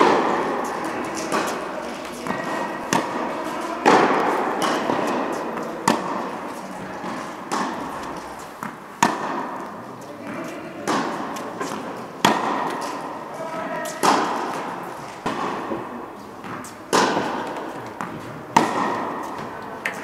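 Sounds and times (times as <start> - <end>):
tennis ball bouncing: 0.0 - 20.0
tennis racket striking ball: 0.0 - 20.0.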